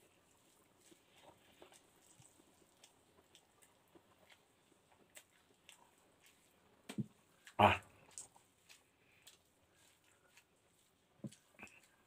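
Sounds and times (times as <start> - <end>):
person chewing noodles: 0.0 - 12.0.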